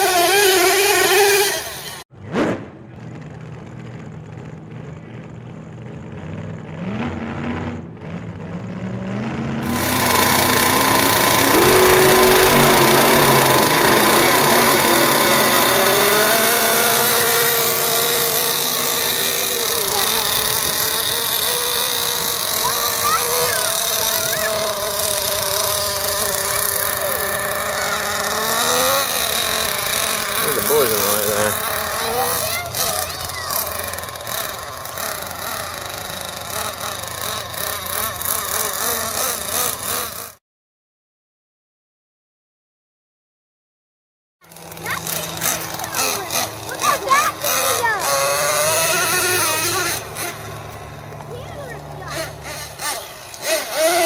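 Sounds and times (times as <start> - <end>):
small nitro engine whining: 0.0 - 40.4, 44.4 - 54.0.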